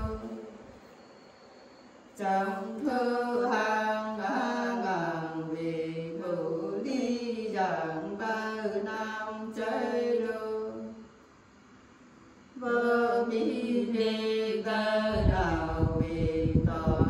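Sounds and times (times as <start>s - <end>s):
women singing unaccompanied: 0.0s - 0.6s, 2.2s - 11.1s, 12.6s - 17.0s.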